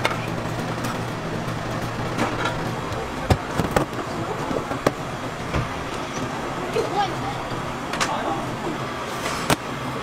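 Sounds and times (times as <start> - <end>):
traffic hum: 0.0 - 10.0.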